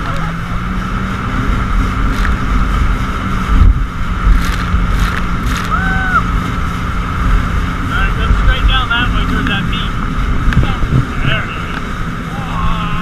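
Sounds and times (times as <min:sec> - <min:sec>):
water noise: 0:00.0 - 0:13.0
watercraft engine hum: 0:00.0 - 0:13.0
wind buffeting microphone: 0:00.4 - 0:12.4.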